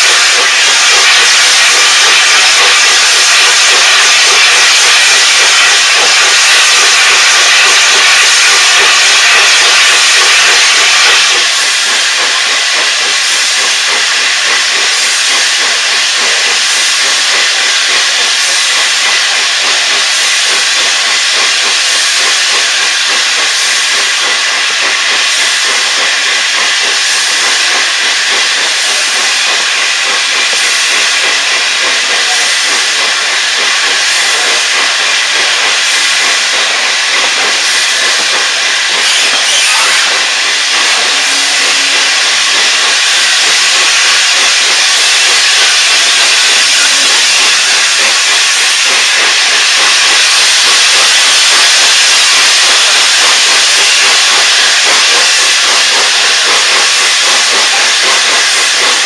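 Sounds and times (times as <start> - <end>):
steam hissing: 0.0 - 59.0.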